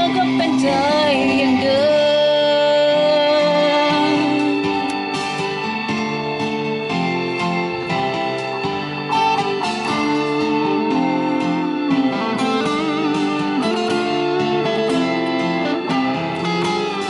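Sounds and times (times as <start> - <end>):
electric guitar: 0.0 - 17.0
live pop song: 0.0 - 17.0.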